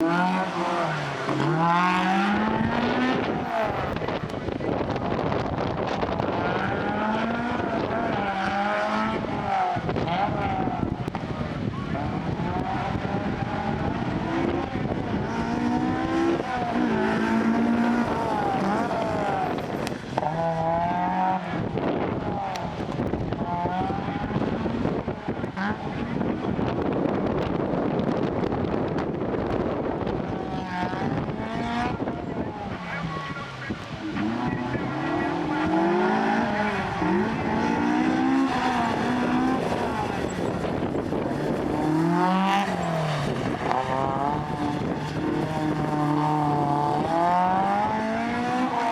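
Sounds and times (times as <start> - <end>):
car engine revving hard: 0.0 - 48.9
wind buffeting microphone: 0.0 - 48.9.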